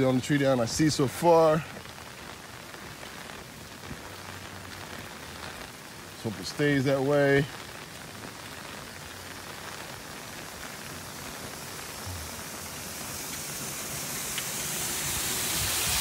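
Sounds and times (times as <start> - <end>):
rain falling on pavement: 0.0 - 16.0
water pouring into storm drain: 0.0 - 16.0.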